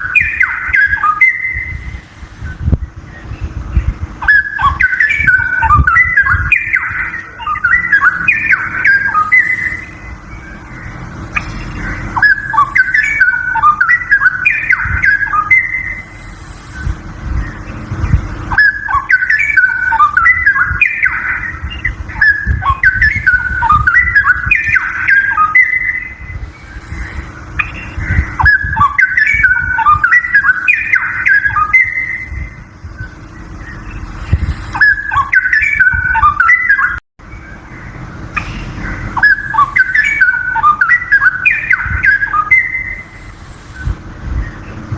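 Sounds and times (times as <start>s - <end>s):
bird singing whistled phrases: 0.0s - 44.9s
low background rumble: 0.0s - 44.9s
steady hum: 0.0s - 44.9s.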